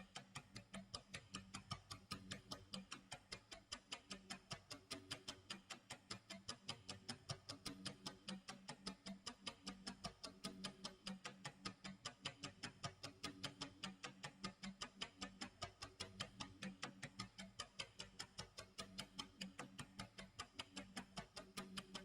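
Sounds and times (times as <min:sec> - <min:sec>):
clock ticking fast: 0:00.0 - 0:22.0.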